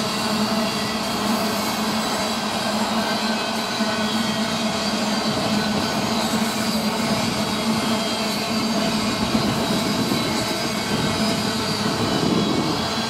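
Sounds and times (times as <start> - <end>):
steel wheels on rail: 0.0 - 13.0.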